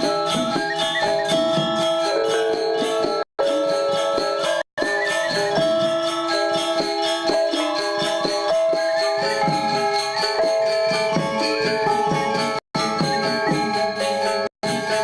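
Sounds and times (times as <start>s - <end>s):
gamelan ensemble playing: 0.0s - 15.0s.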